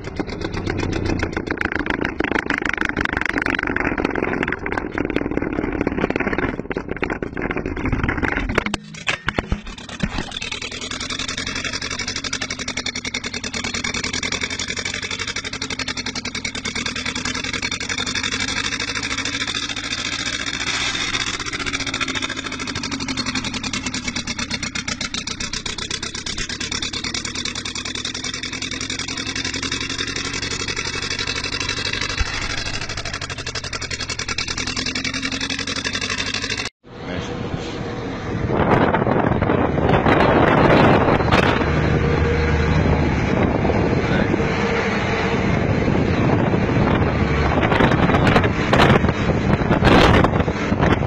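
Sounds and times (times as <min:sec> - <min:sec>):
old tractor engine running: 0:00.0 - 0:37.4, 0:38.3 - 0:51.0.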